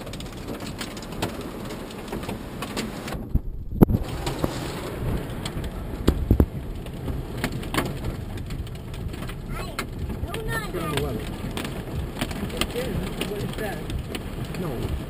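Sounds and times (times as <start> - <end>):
car road and engine noise: 0.0 - 15.0
rain beating on a car: 0.0 - 15.0.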